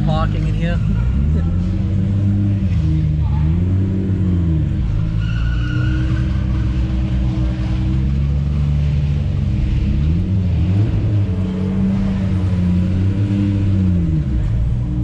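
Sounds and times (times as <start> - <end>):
car engine running at low revs: 0.0 - 5.2, 6.2 - 15.0.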